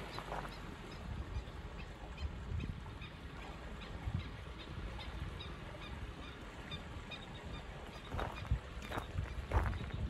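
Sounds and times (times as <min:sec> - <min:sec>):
wind on the microphone: 0:00.0 - 0:10.0.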